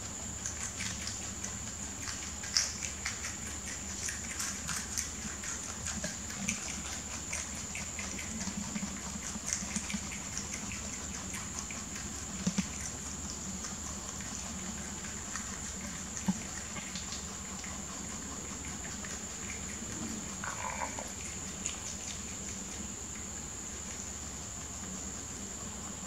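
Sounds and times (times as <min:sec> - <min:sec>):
rabbits chewing leafy greens: 0:00.0 - 0:26.0.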